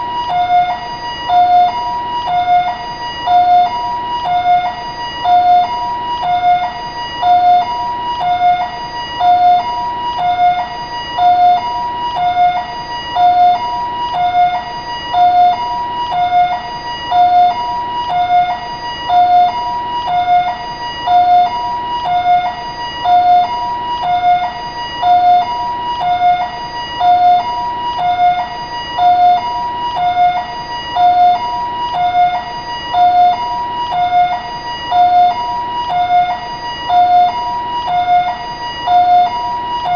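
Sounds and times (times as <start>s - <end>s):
two-tone ambulance siren: 0.0s - 39.9s.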